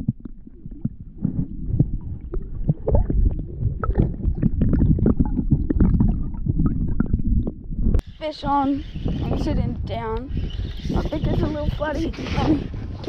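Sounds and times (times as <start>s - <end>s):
underwater low rumble: 0.0s - 13.0s
water clicks and crackles: 0.0s - 13.0s.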